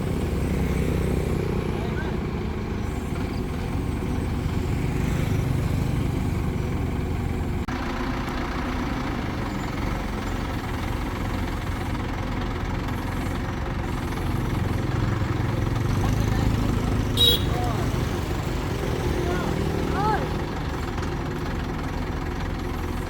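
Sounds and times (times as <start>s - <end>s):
crane engine idling: 0.0s - 23.0s.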